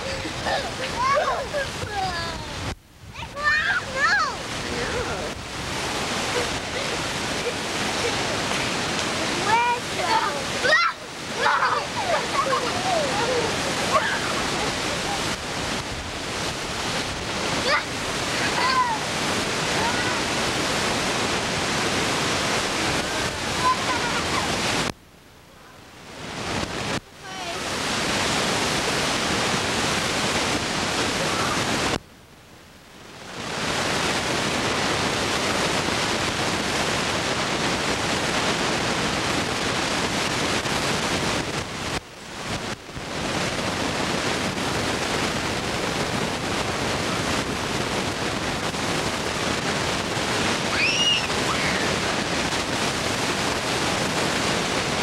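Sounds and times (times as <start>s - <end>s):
wind noise on microphone: 0.0s - 25.0s, 25.9s - 32.0s, 33.0s - 55.0s.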